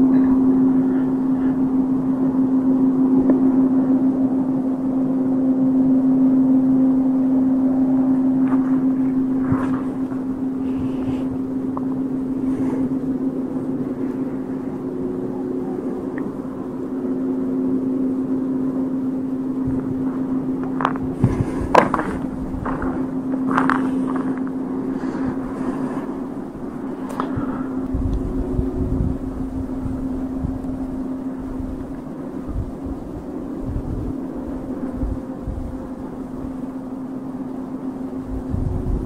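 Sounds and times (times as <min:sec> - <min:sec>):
low droning hum: 0:00.0 - 0:39.0.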